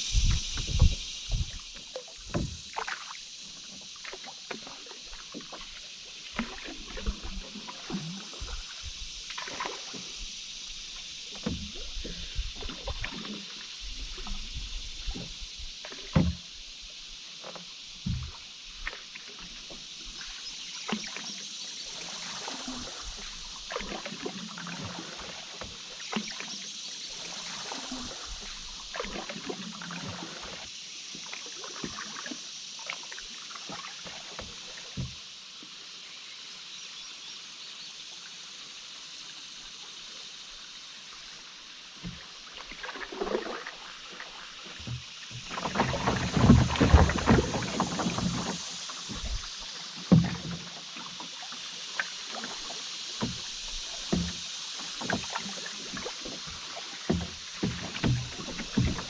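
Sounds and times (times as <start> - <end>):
paddle strokes dripping: 0.0 - 36.2, 39.9 - 59.0
hiss of moving water: 0.0 - 59.0.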